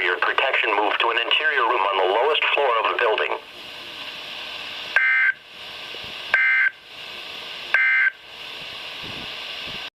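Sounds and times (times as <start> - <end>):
radio static hiss: 0.0 - 9.9.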